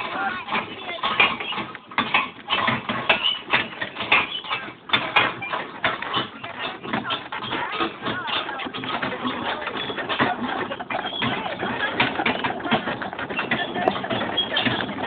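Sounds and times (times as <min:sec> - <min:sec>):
horse hooves walking: 0:00.0 - 0:15.0.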